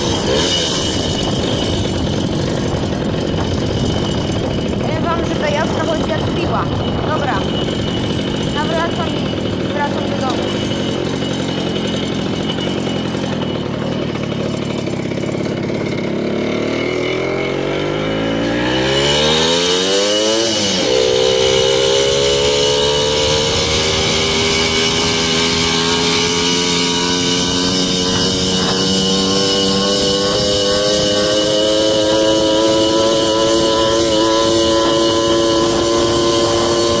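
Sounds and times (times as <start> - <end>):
moped engine revving: 0.0 - 37.0.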